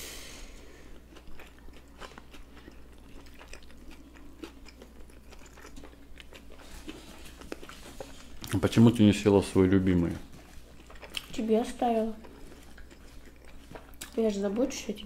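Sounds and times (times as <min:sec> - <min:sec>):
people chewing with wet clicks: 0:00.9 - 0:15.0.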